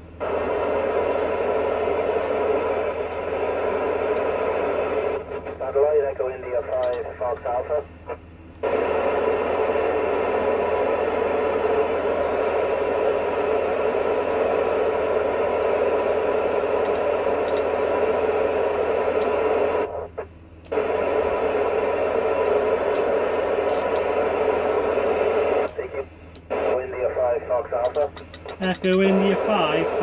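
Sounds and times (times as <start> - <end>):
radio receiver hiss: 0.0 - 30.0.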